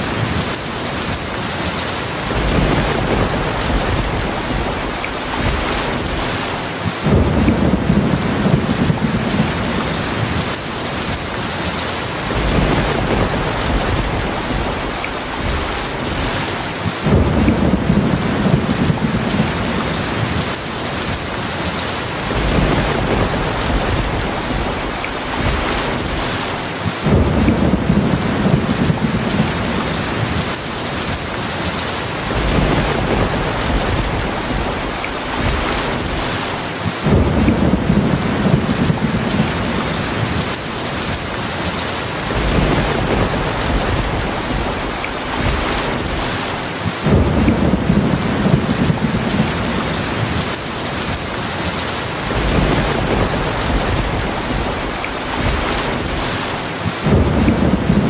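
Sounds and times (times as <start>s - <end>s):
thunder rumbling: 0.0s - 41.4s, 42.0s - 58.0s
heavy rain falling: 0.0s - 58.0s.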